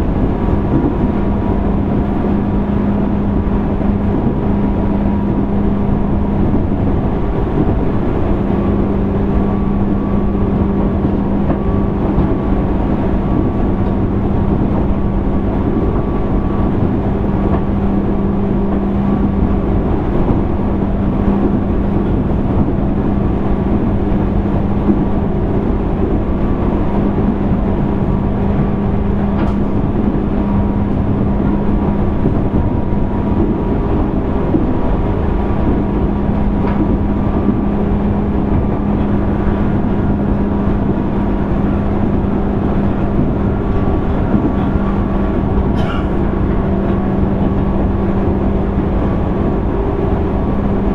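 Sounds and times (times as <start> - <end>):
electric train motor hum: 0.0 - 50.9
wheel-on-rail rumble: 0.0 - 50.9.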